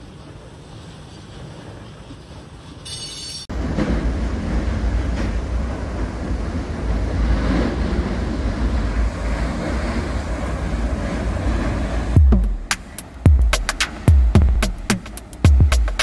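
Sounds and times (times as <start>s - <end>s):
train rumbling over steel bridge: 0.0s - 16.0s.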